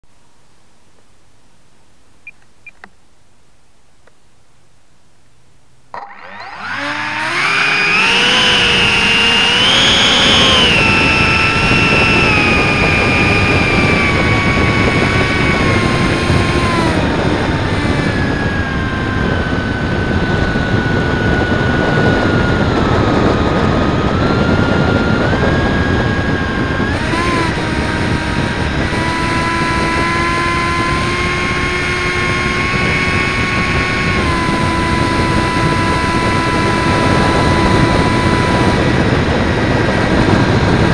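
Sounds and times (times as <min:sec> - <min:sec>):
electric motor and propeller whine: 0:05.9 - 0:40.9
wind rush on microphone: 0:06.4 - 0:40.9.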